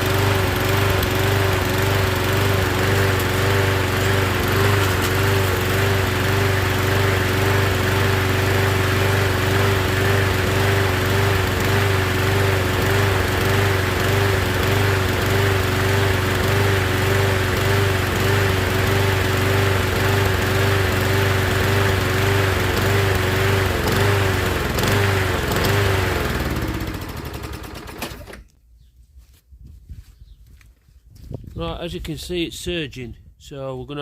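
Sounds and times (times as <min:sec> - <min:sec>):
lawnmower engine surging: 0:00.0 - 0:28.4.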